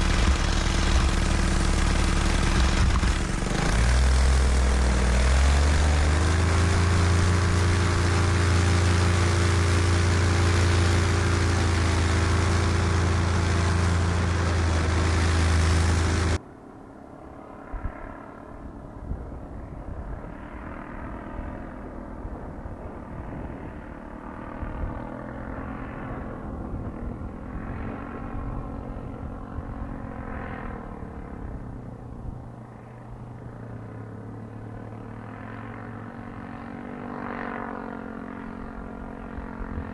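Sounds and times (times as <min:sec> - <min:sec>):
paramotor engine running loud: 0:00.0 - 0:16.4, 0:17.3 - 0:39.9
distant engine drone overhead: 0:00.0 - 0:39.9.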